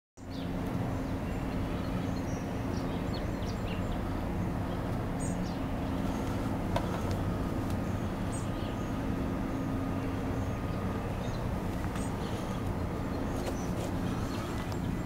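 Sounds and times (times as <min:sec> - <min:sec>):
birds chirping: 0:00.2 - 0:15.0
steady low hum: 0:00.2 - 0:15.0.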